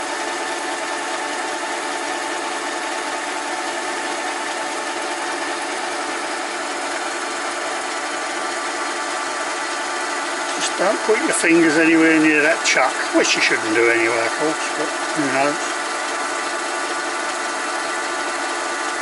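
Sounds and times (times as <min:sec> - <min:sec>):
lathe motor humming and whining: 0:00.0 - 0:19.0.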